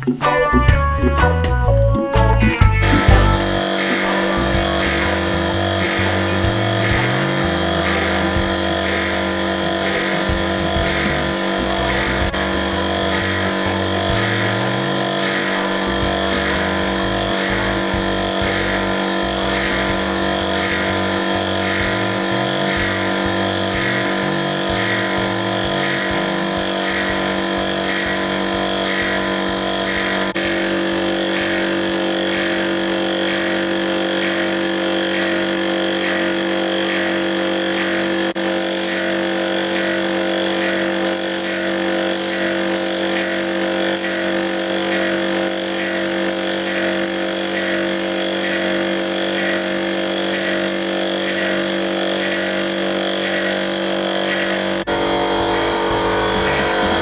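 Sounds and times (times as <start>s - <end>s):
air compressor running: 0.0s - 0.2s, 2.6s - 57.0s
spray gun hissing: 2.8s - 57.0s.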